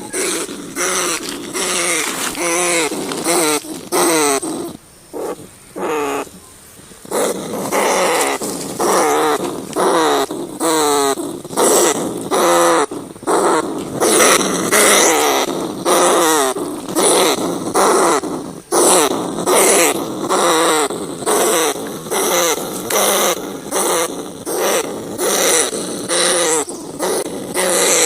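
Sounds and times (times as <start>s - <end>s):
rats squealing: 0.0s - 6.3s, 7.0s - 28.0s.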